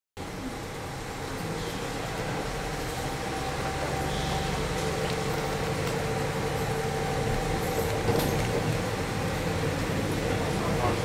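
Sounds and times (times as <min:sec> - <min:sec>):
diesel railcar rumbling: 0:00.2 - 0:11.0.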